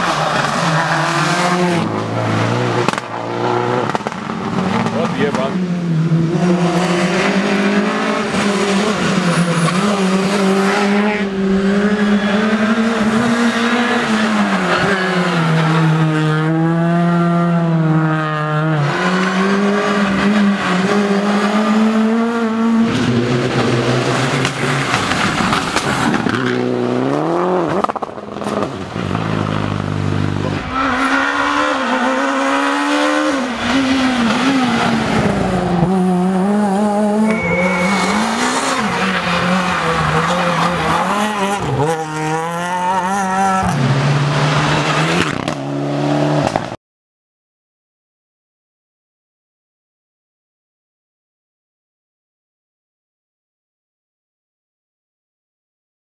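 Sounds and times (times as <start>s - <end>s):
rally car engines revving: 0.0s - 46.8s.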